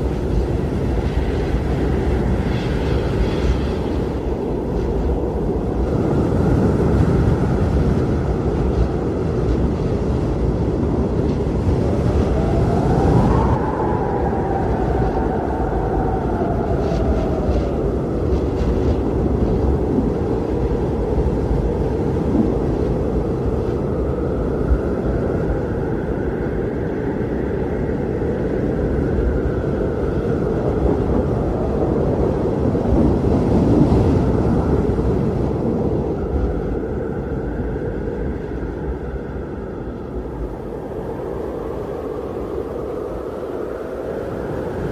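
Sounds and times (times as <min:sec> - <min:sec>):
blizzard wind blowing hard: 0:00.0 - 0:44.9
howling wind whistle: 0:00.0 - 0:44.9.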